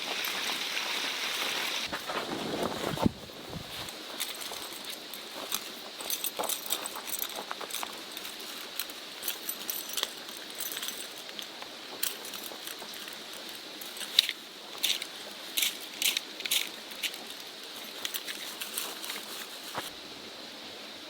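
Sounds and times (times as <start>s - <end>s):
camping gear clinking and rattling: 0.0s - 20.0s.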